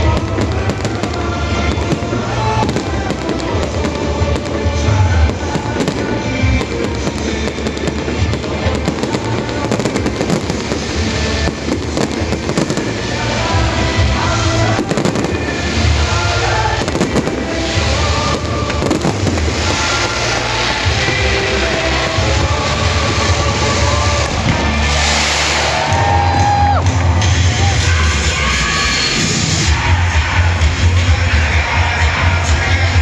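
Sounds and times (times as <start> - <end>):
fireworks bursting: 0.0 - 33.0
music playing: 0.0 - 33.0.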